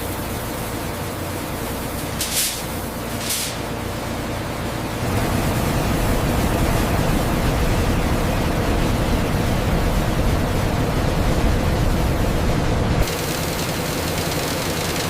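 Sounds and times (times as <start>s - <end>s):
mill machinery rushing: 0.0s - 15.0s.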